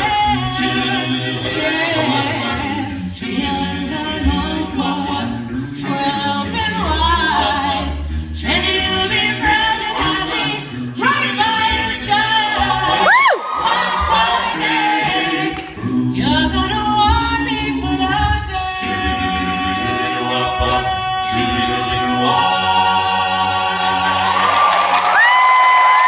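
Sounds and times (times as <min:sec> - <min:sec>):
a cappella group singing in harmony: 0:00.0 - 0:25.3.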